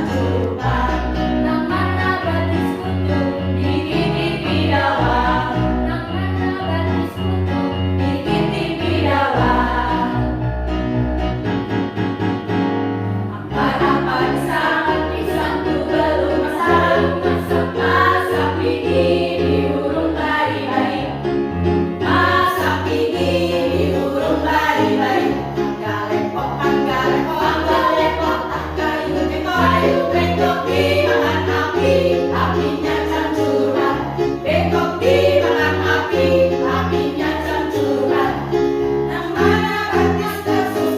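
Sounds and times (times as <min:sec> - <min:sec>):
choir singing: 0:00.0 - 0:07.3, 0:08.0 - 0:10.5, 0:13.3 - 0:21.3, 0:22.0 - 0:40.9.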